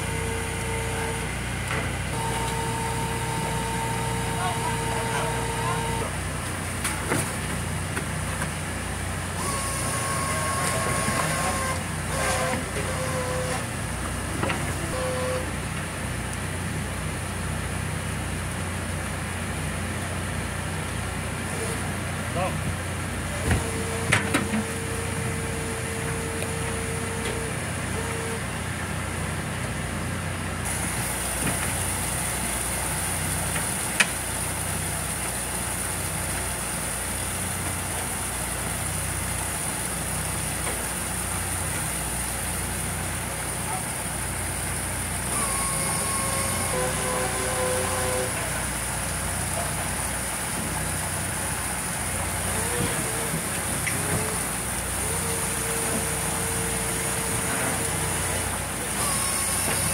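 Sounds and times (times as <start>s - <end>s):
deck machinery drone: 0.0s - 35.4s, 38.8s - 59.9s.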